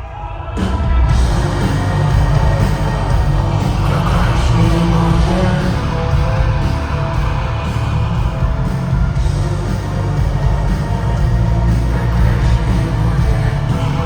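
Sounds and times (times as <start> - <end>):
booming bass and drums: 0.6 - 14.0
electric guitar: 0.6 - 14.0
live rock band playing: 1.0 - 14.0.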